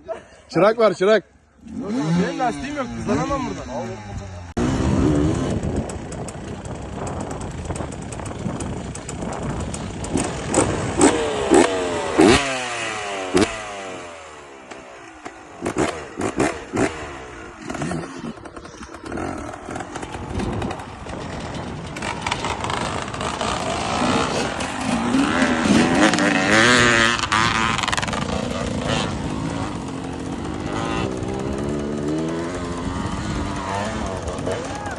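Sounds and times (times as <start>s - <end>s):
motorcycle engine revving: 1.5s - 34.9s.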